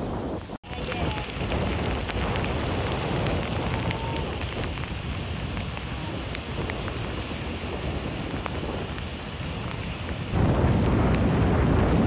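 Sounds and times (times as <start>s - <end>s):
wind buffeting microphone: 0.0s - 12.0s
surf breaking on rocks: 0.2s - 12.0s.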